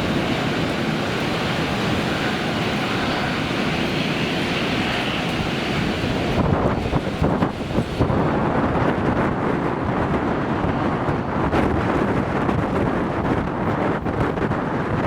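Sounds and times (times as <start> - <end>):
strong gusty wind on microphone: 0.0 - 15.0.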